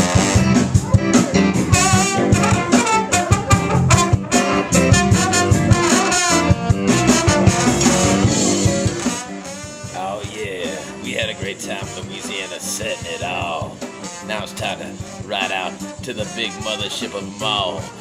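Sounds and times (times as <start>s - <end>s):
drum kit beat: 0.0s - 18.0s
guitar: 0.0s - 18.0s
saxophone: 0.0s - 18.0s.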